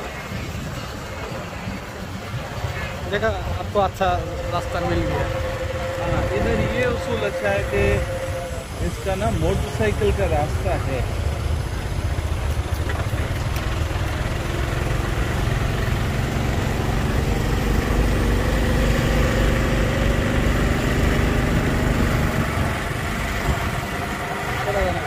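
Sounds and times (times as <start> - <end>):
road noise and idling vehicles: 0.0 - 25.0
rising engine tone: 3.6 - 25.0
motorbike engine running: 3.7 - 25.0.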